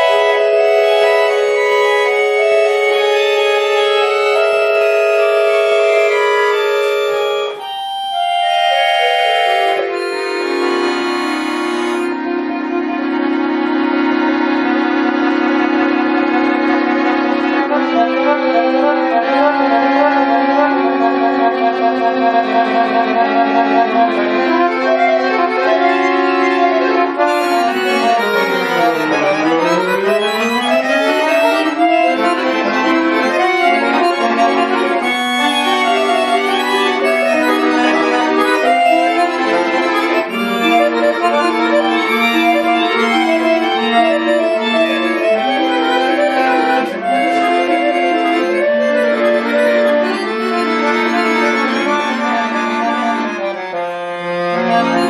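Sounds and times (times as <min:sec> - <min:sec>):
button accordion playing: 0:00.0 - 0:55.0.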